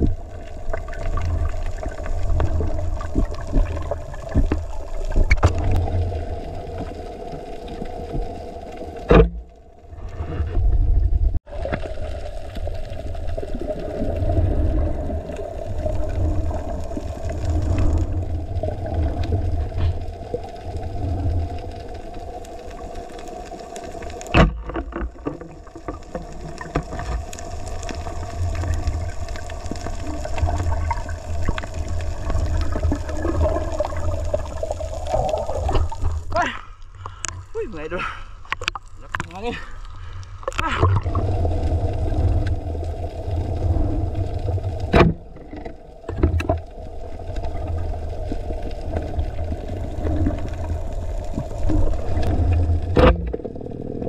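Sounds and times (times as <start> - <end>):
underwater rumble: 0.0 - 54.0.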